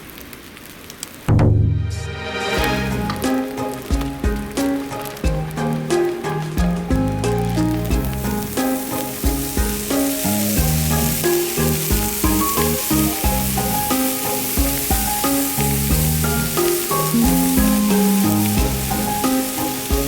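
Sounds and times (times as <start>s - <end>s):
rice sizzling in a pan: 0.0s - 1.3s, 2.4s - 20.0s
background music: 1.4s - 20.0s
stirring in a pan: 2.4s - 20.0s.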